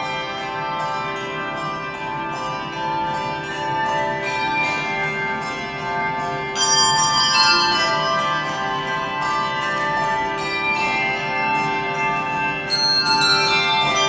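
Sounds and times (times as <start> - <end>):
handbell choir playing: 0.0 - 14.0.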